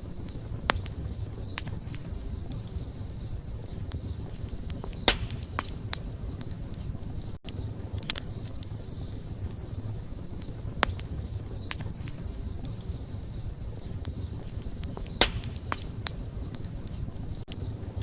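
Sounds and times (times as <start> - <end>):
fire crackles and pops: 0.0 - 18.0
low rumble of flames: 0.0 - 18.0.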